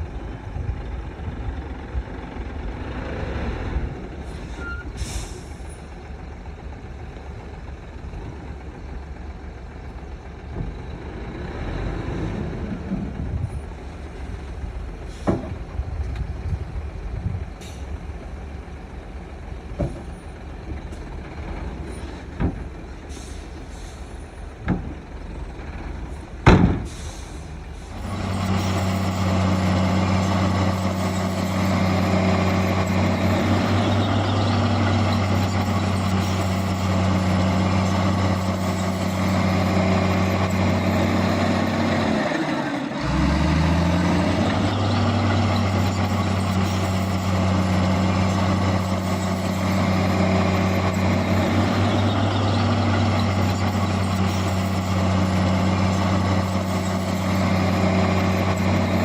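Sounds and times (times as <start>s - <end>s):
engine under load: 0.0s - 59.0s
heavy diesel machinery running: 0.0s - 59.0s.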